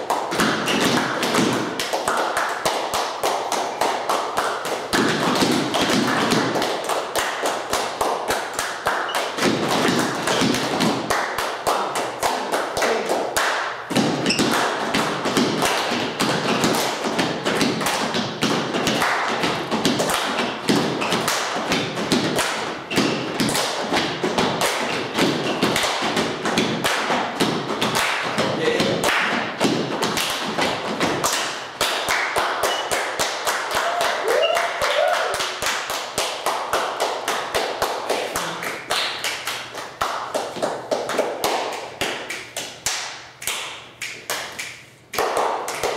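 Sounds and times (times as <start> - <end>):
hands clapping: 0.0 - 45.9.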